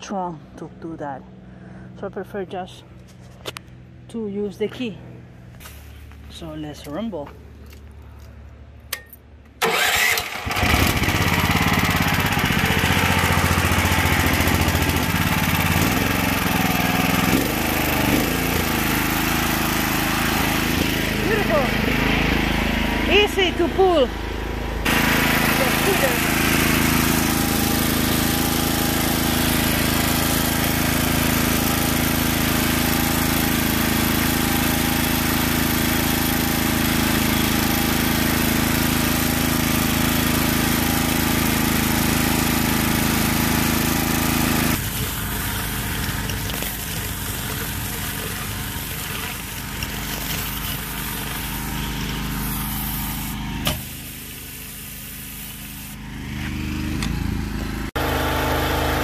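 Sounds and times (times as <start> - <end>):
rough mechanical noise: 4.8 - 59.0
petrol engine running: 9.5 - 59.0.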